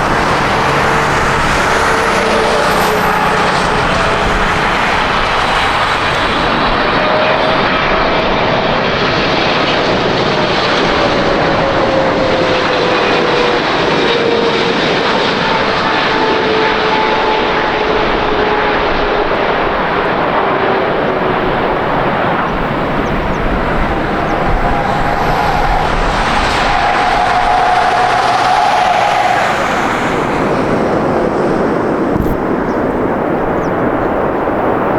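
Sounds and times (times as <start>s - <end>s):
higher engine tone: 0.0s - 33.5s
jet engines with falling whine: 0.0s - 34.9s.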